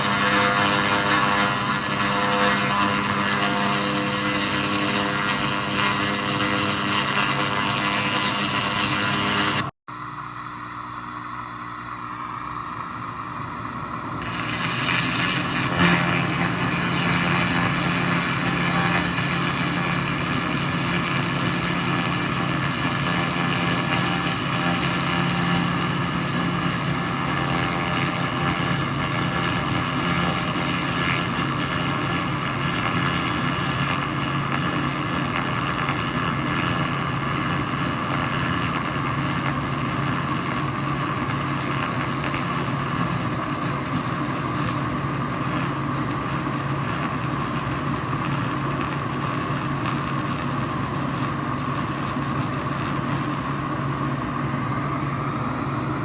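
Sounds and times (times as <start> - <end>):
laser machine hum: 0.0 - 56.0.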